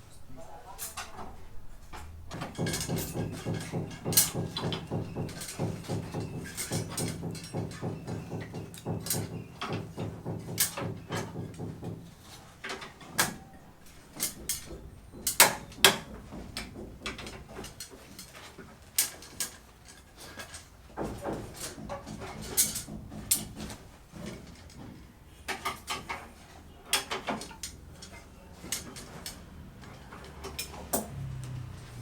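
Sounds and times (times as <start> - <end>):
construction knocks and clacks: 0.8 - 32.0.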